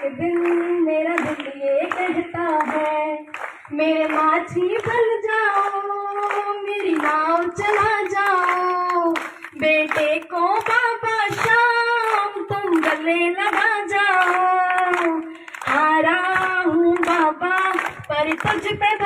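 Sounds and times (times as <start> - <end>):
woman singing into microphone: 0.0 - 19.0.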